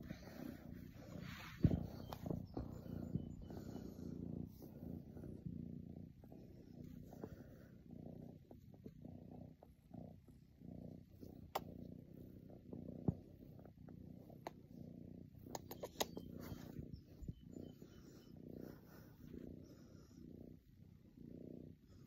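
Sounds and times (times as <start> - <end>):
kitten purring: 0.0 - 22.0.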